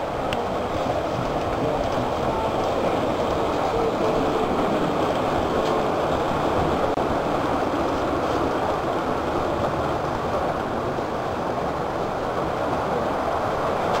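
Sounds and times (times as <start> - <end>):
model locomotive running on track: 0.0 - 14.0.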